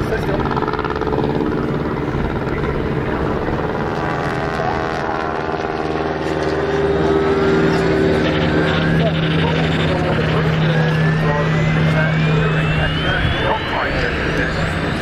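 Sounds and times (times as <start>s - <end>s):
mechanical hum with whining tones: 2.4s - 15.0s.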